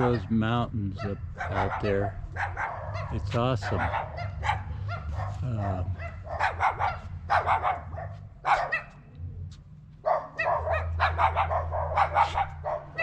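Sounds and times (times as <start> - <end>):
dog barking: 0.0 - 9.1, 10.0 - 13.0
low steady hum: 0.0 - 13.0.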